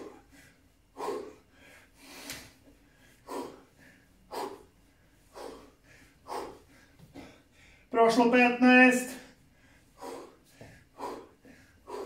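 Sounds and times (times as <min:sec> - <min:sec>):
man breathing hard: 0:00.0 - 0:07.9, 0:09.1 - 0:12.0.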